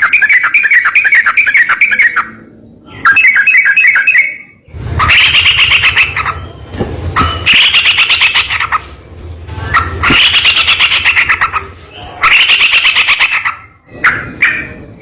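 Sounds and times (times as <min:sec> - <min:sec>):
bird chattering song: 0:00.0 - 0:09.0, 0:09.6 - 0:15.0.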